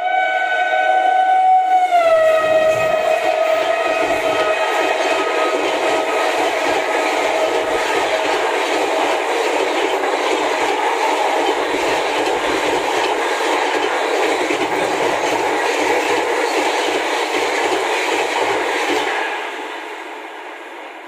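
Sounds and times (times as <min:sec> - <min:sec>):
train wheel-on-rail rush: 0:00.0 - 0:21.0.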